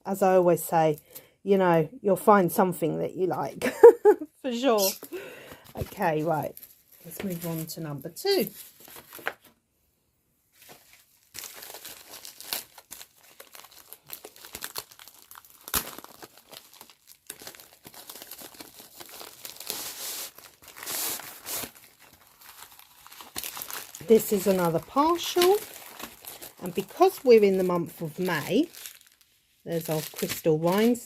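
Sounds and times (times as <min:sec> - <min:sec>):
packaging rustling and crinkling: 0:05.0 - 0:09.6, 0:10.5 - 0:31.0.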